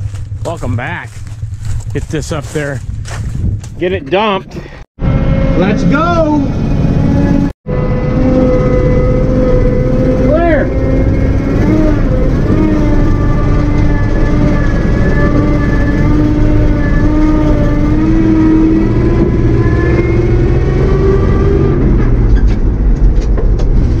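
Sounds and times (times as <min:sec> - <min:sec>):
truck engine accelerating: 0:00.0 - 0:04.0, 0:05.0 - 0:24.0.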